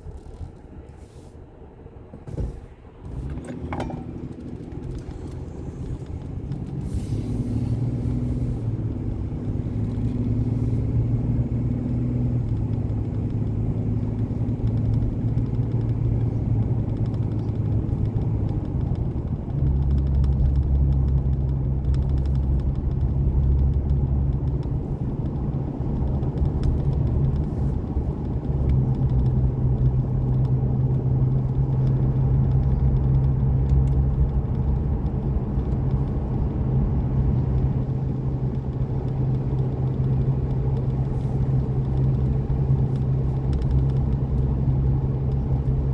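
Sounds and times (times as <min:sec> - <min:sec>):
car engine and road drone: 0:00.0 - 0:45.9.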